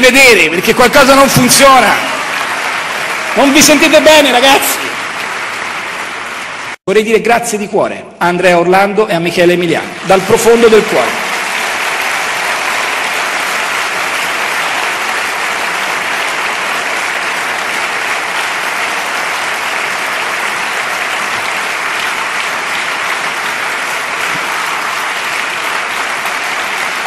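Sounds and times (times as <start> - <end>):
audience applause: 0.2 - 6.8, 9.7 - 27.0.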